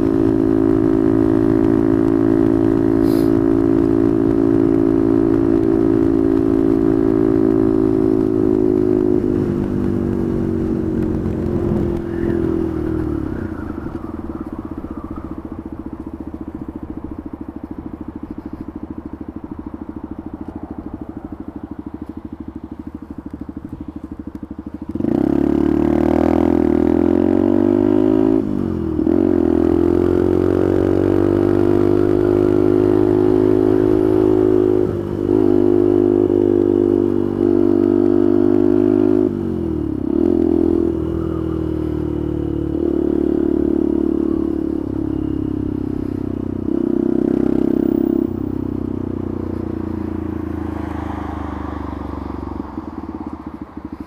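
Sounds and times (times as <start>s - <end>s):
small motorcycle engine: 0.0s - 54.0s.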